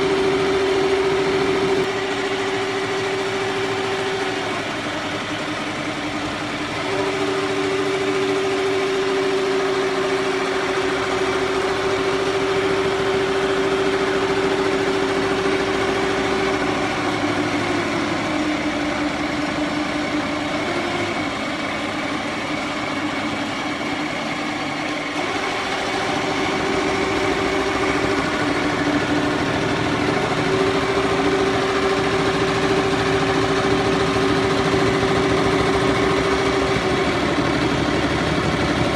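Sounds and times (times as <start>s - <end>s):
motor whine: 0.0s - 38.9s.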